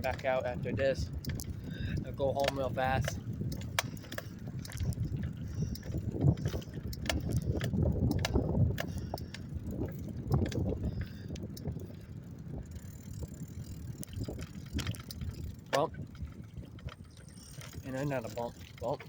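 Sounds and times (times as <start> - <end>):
bicycle rattling clicks: 0.0 - 19.0
bicycle tyres rumbling: 0.0 - 19.0.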